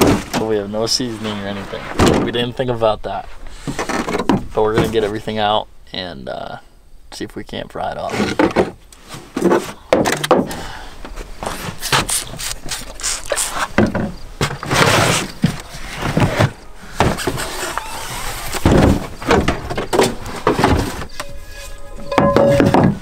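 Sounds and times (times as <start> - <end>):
plastic totes being rummaged: 0.0 - 5.3, 8.0 - 23.0.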